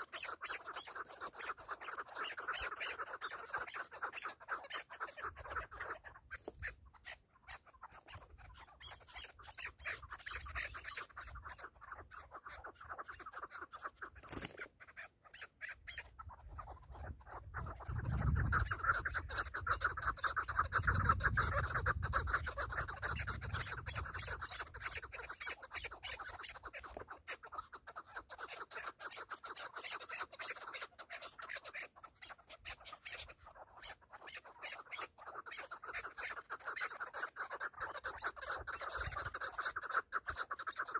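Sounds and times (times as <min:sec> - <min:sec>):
partridges chucking and cackling: 0:00.0 - 0:40.9.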